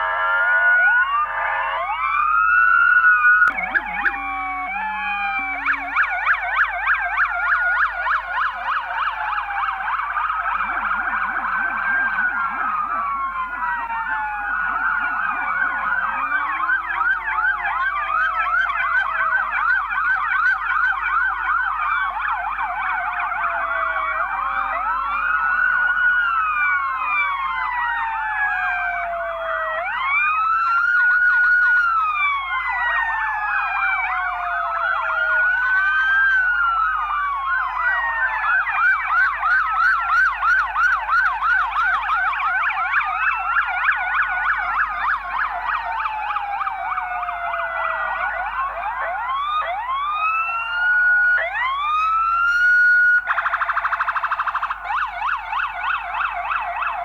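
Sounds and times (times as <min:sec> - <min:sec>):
police siren wail: 0:00.0 - 0:57.0
police siren yelp: 0:00.0 - 0:57.0.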